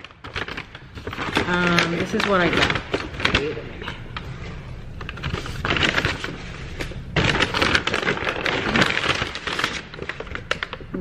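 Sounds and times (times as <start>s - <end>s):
paper bag rustling: 0.0s - 10.8s.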